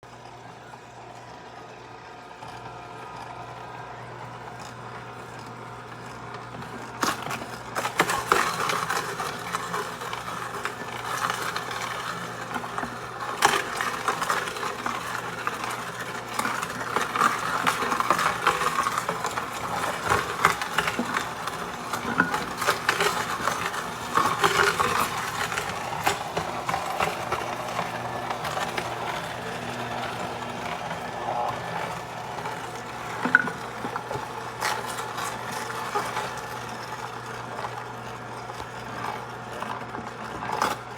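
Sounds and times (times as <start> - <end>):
electric juicer motor humming: 0.0 - 40.9
produce crunching and grinding: 4.6 - 40.9.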